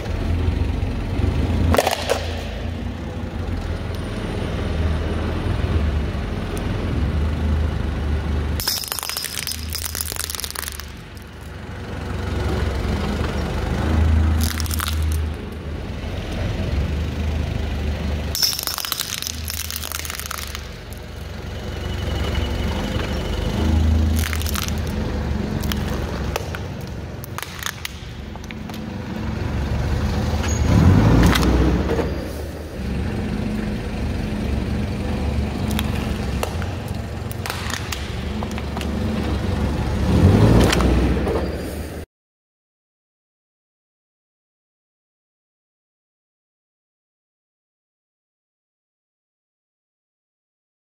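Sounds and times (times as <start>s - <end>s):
forklift engine running: 0.0s - 42.0s.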